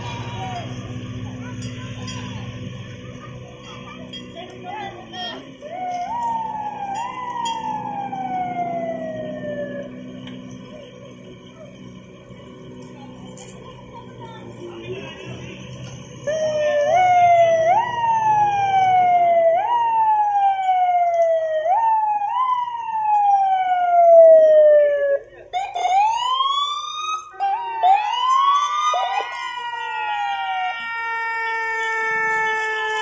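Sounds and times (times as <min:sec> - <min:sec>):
fire engine sirens: 0:00.0 - 0:33.0.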